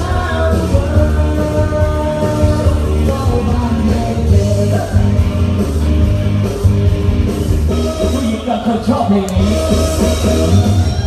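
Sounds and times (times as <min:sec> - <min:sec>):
dance music with singer: 0:00.0 - 0:11.0.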